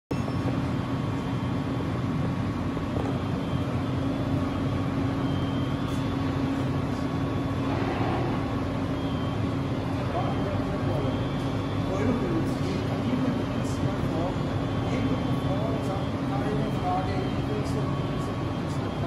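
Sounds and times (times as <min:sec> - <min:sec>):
lathe mechanical hum: 0:00.1 - 0:19.0.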